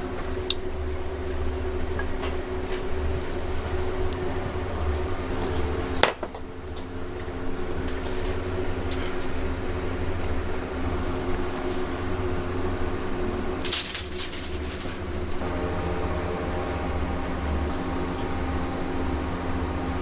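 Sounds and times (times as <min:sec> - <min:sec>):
machine hum with low rumble: 0:00.0 - 0:20.0.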